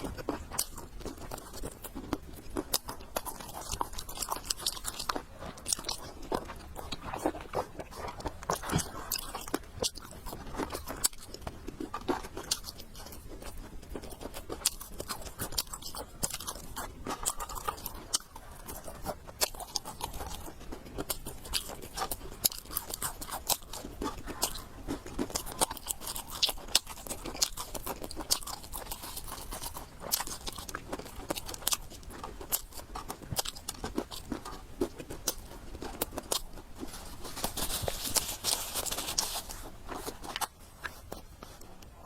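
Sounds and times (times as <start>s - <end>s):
chewing and crunching: 0.0s - 42.0s.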